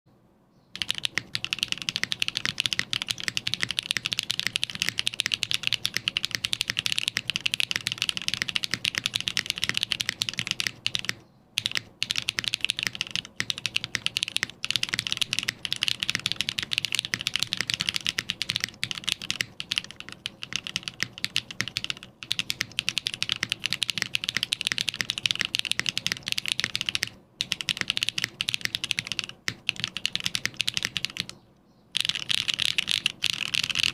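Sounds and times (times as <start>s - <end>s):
typing on mechanical keyboard: 0.8s - 31.4s, 32.0s - 33.9s.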